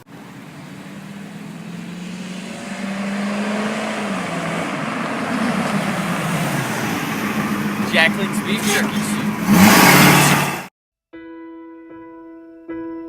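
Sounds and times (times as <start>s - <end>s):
car engine running: 0.0s - 10.7s.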